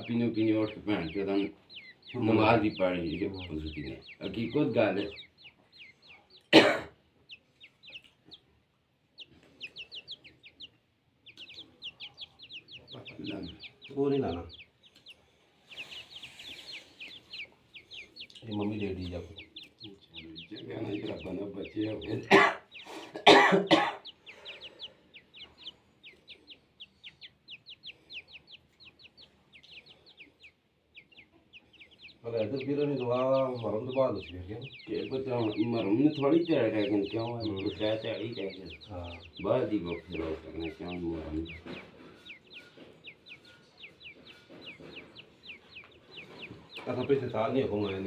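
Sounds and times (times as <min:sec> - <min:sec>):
chicks peeping: 0:00.0 - 0:48.0.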